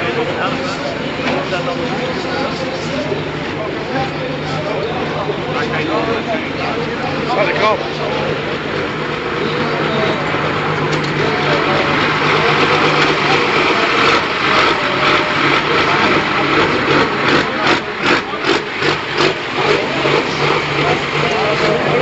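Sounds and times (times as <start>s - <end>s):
turbocharged engine idling: 0.0s - 22.0s.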